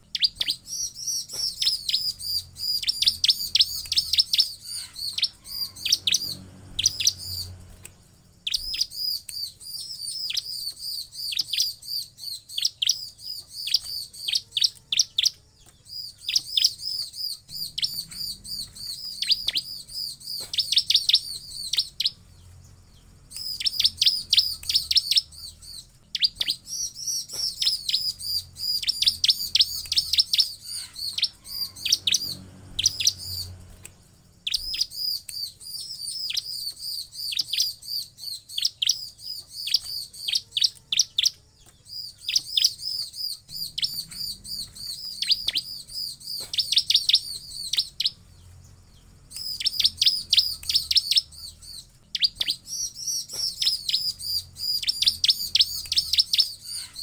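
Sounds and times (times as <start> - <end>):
bird singing high chirps: 0.0 - 57.0.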